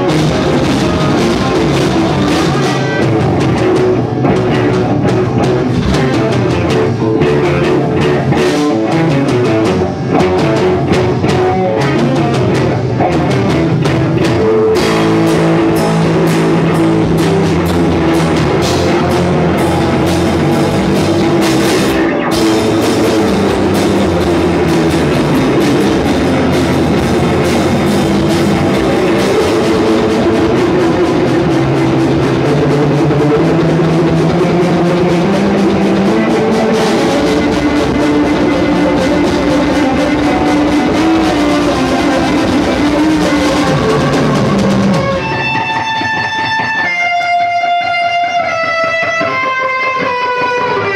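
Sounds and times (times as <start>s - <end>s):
rock music with drums and guitar: 0.0s - 50.9s.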